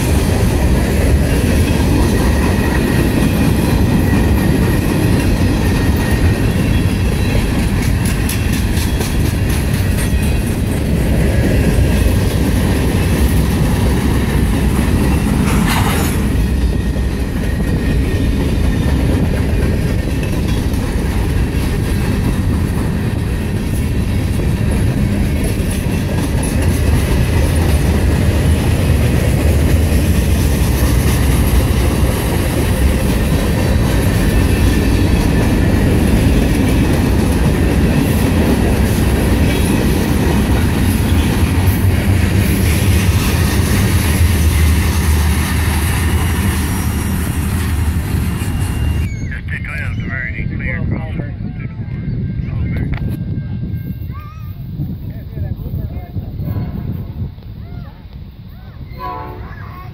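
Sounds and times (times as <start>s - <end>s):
steel wheels rolling on rail: 0.0s - 49.3s
wheels clicking over rail joints: 0.1s - 49.1s.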